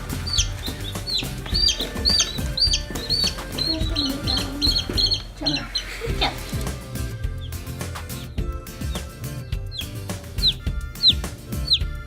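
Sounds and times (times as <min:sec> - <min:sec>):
background music with drum beat: 0:00.0 - 0:12.0
chicks peeping: 0:00.0 - 0:12.0.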